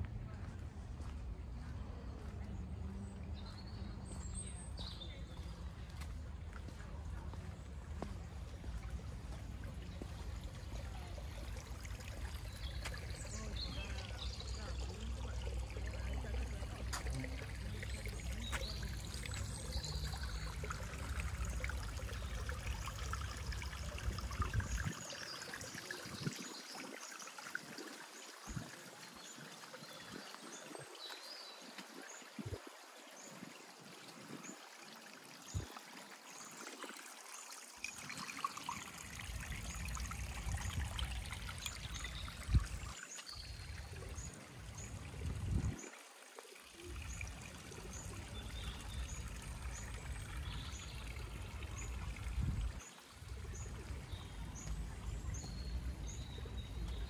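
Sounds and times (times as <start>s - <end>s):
water trickling in stream: 0.0s - 57.0s.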